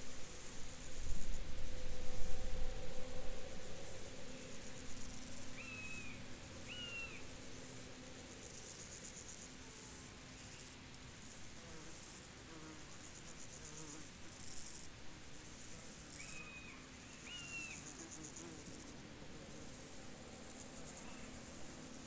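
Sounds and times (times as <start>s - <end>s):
insects trilling: 0.2s - 9.6s, 13.0s - 22.0s.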